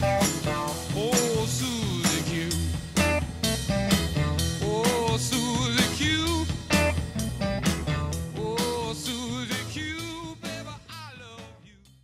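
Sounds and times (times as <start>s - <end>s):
song with singing over drum beat: 0.0s - 12.0s.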